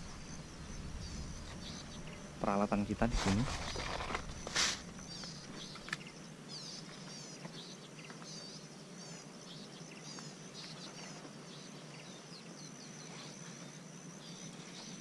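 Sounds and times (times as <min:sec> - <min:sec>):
high-pitched insect drone: 0:00.0 - 0:15.0
small birds chirping: 0:00.0 - 0:15.0.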